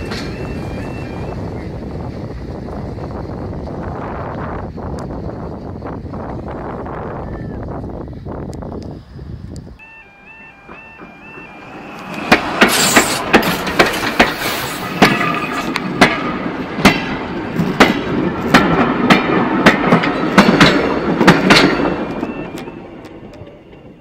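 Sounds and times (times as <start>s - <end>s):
steam train rumbling overhead: 0.0s - 24.0s.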